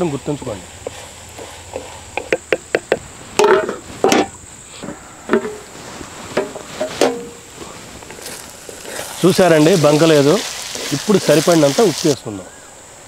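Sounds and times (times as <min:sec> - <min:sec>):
okra frying: 0:00.0 - 0:12.3.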